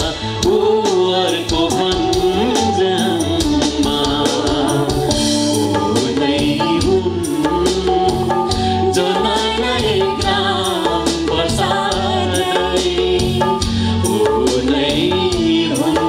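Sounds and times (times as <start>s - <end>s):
drum and bass backing: 0.0s - 16.0s
person singing into microphone: 0.0s - 16.0s.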